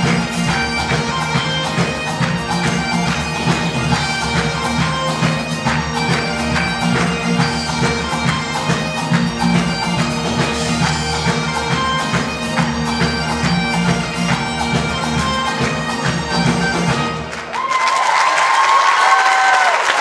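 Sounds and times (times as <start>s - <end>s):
bagpipes playing a dance tune: 0.0s - 17.7s.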